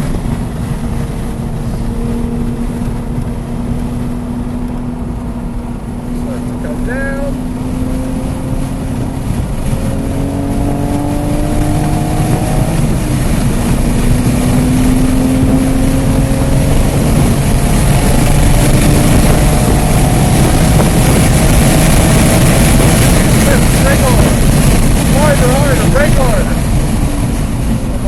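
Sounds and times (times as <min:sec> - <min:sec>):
car engine accelerating: 0:00.0 - 0:28.0
wind and road noise: 0:00.0 - 0:28.0.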